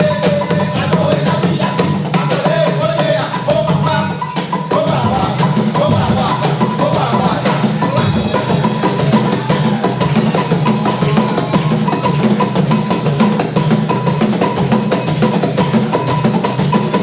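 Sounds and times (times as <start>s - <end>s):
bass line: 0.0s - 17.0s
drums and hand percussion: 0.0s - 17.0s.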